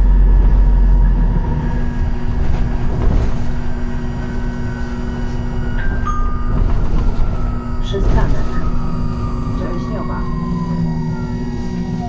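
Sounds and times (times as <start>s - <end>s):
bus engine and road noise: 0.0s - 12.0s
deep rumble: 0.0s - 12.0s.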